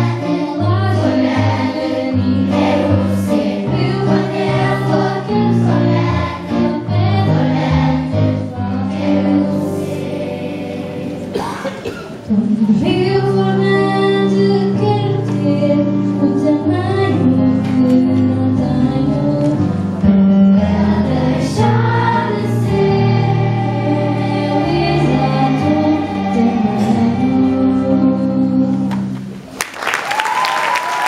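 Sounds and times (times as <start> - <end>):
children's choir singing: 0.0 - 19.6, 20.5 - 29.0
electronic keyboard chords: 0.0 - 29.4.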